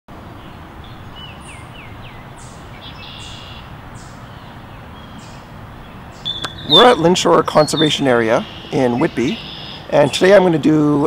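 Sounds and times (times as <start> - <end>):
outdoor background noise: 0.1 - 11.0
songbirds whistling and chattering: 0.4 - 11.0.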